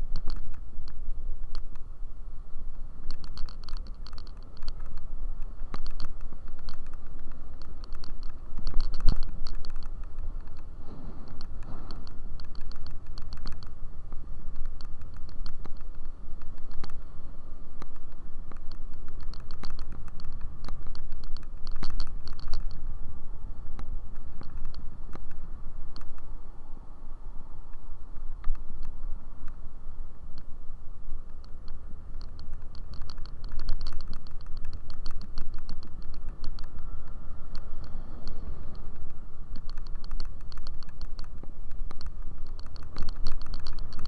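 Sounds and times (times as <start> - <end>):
small clicking rattles: 0.0 - 1.9, 3.0 - 17.1, 17.7 - 22.9, 23.7 - 26.3, 31.2 - 44.0
wind rumble on microphone: 0.0 - 44.0.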